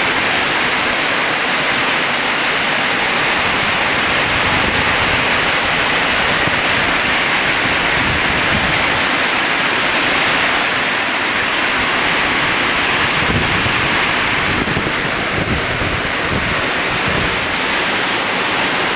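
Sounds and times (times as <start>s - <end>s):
heavy rain: 0.0s - 18.9s
wind rumbling on microphone: 0.0s - 18.9s.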